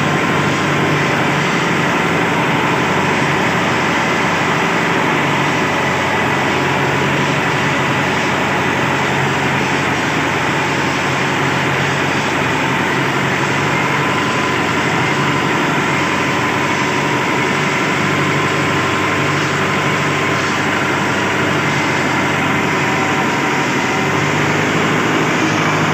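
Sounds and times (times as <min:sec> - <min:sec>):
sawmill machinery hum: 0:00.0 - 0:25.9.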